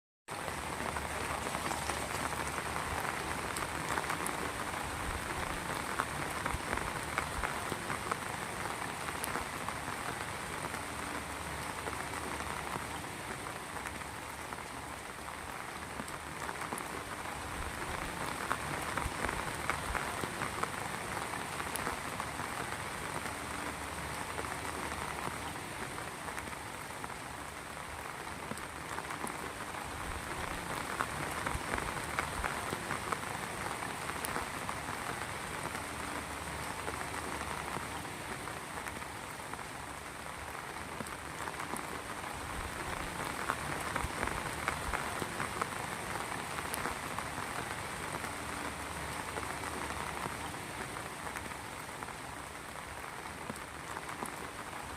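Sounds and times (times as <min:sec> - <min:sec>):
heavy rain hissing: 0:00.3 - 0:54.9
raindrops ticking on a surface: 0:00.3 - 0:54.9.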